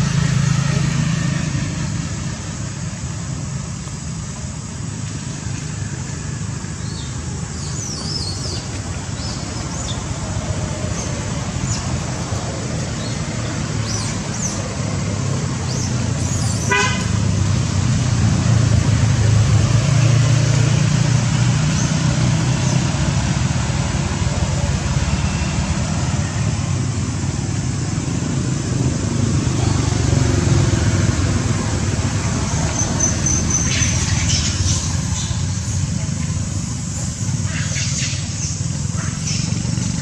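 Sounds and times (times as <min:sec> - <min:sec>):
road traffic engine rumble: 0:00.0 - 0:40.0.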